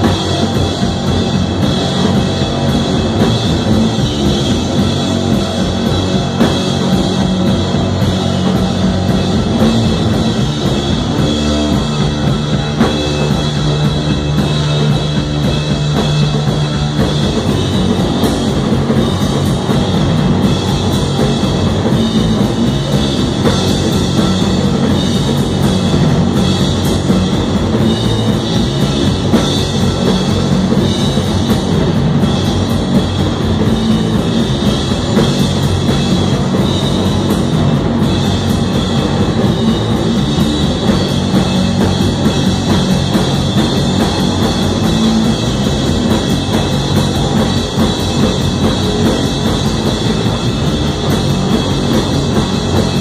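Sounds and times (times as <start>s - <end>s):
distorted electric guitar: 0.0s - 53.0s
drum kit: 0.0s - 53.0s.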